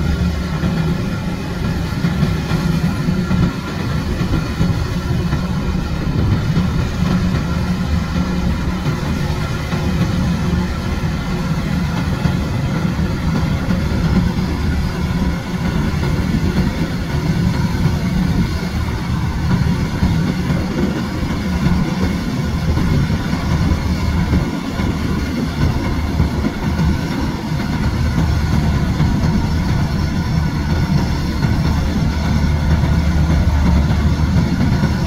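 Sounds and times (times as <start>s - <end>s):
combine harvester engine drone: 0.0s - 35.0s
machinery humming and whirring: 0.0s - 35.0s.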